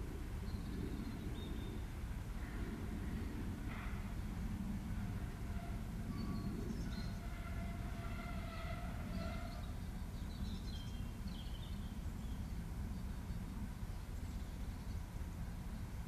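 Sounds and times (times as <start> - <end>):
birds singing: 0.0 - 3.8, 5.5 - 16.0.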